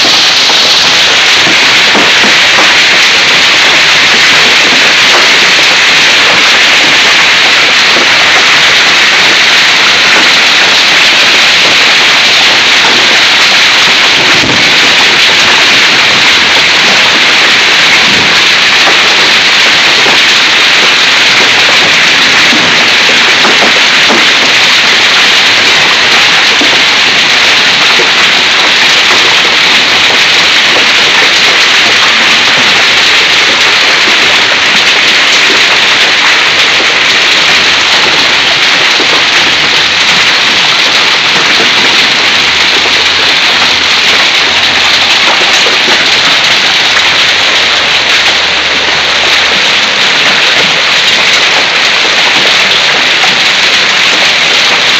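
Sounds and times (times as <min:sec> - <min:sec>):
hailstones pattering: 0:00.0 - 0:54.9
heavy rain hissing: 0:00.0 - 0:54.9.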